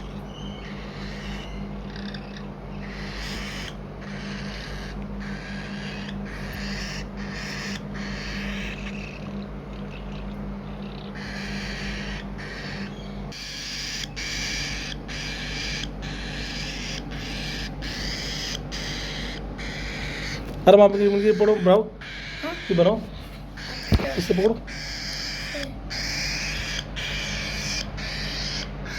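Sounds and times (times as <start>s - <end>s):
bird chicks begging calls: 0.0s - 28.9s
steady low hum: 0.0s - 28.9s.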